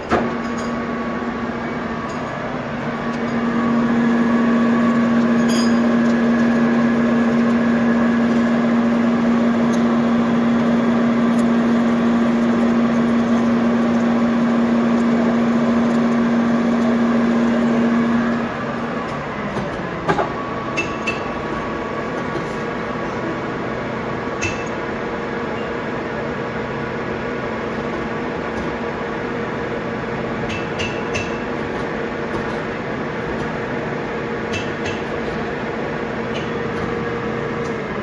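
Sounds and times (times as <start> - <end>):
lathe running: 0.6 - 38.0.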